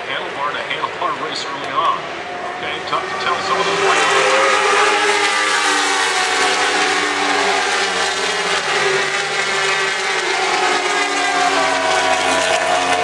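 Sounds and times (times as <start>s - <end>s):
racing motorcycle engines: 0.0s - 13.0s.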